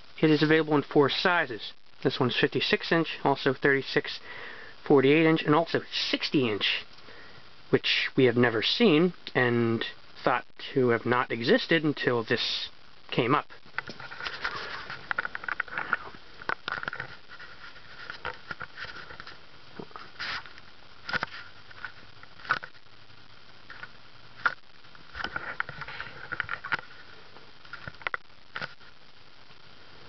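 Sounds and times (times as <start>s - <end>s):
low steady background noise: 0.0s - 30.0s.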